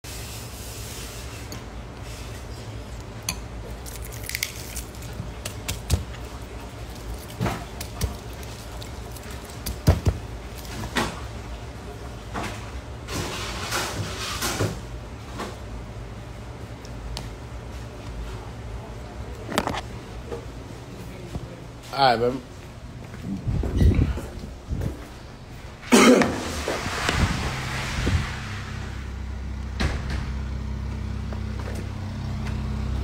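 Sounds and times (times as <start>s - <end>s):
steady low hum: 0.1s - 33.0s.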